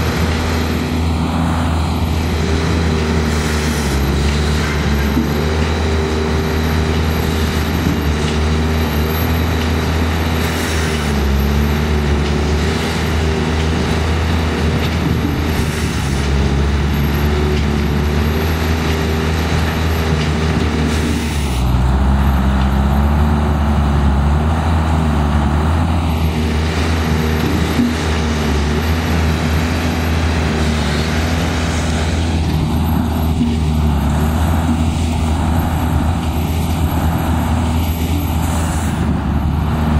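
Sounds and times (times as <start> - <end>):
machine engines running: 0.0 - 39.9.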